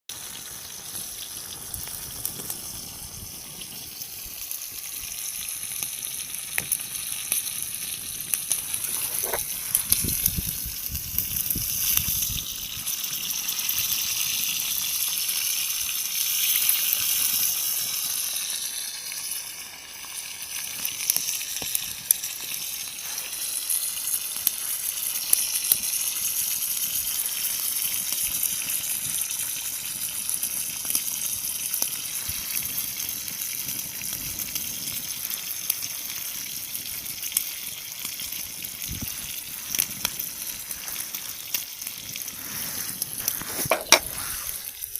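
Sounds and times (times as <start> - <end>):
crackling wood fire: 0.1 - 44.9
sausages sizzling: 0.1 - 44.9.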